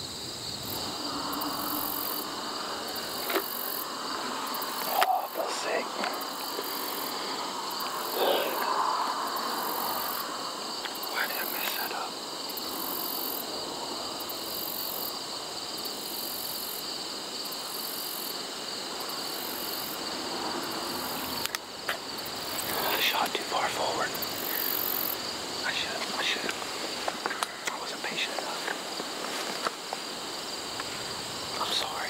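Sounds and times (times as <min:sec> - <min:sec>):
crickets and insects trilling: 0:00.0 - 0:32.0.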